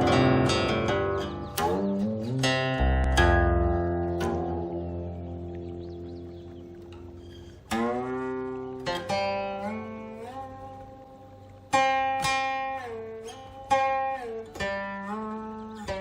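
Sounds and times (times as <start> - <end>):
plucked zither notes: 0.0 - 16.0.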